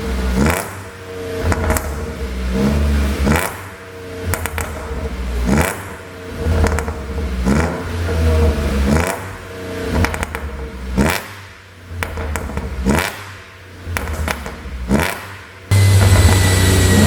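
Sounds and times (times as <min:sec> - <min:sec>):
car engine revving: 0:00.0 - 0:17.0
exhaust pops and crackles: 0:00.3 - 0:02.2, 0:04.3 - 0:16.5.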